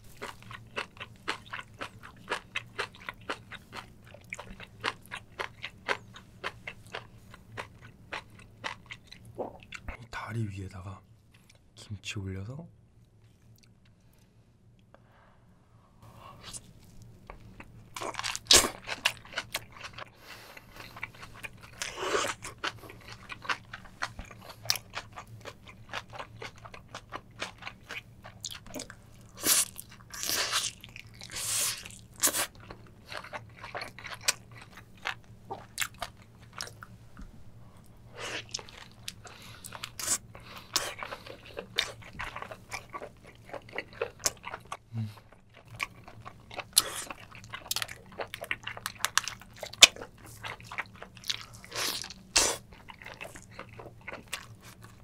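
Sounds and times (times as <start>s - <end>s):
close-miked chewing and biting: 0.0s - 9.9s, 17.3s - 37.0s, 37.8s - 55.0s.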